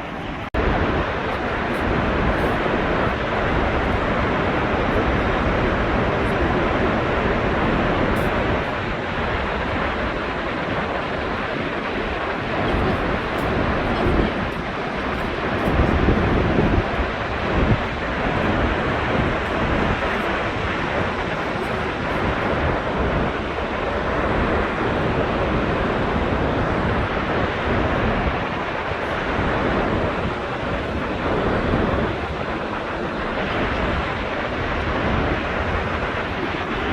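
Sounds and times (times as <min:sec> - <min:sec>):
waterfall rushing: 0:00.0 - 0:36.9
wind buffeting microphone: 0:00.0 - 0:36.9.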